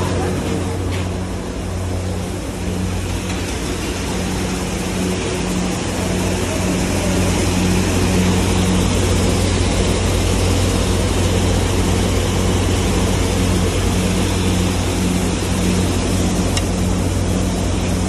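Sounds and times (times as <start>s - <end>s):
loud electric motor hum: 0.0s - 18.0s
pulsing higher hum: 0.0s - 18.0s.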